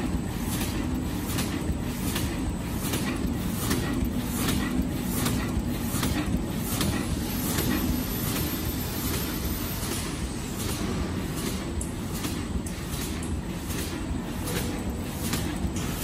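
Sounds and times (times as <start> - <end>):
sharp regular machine clicks: 0.0 - 16.0.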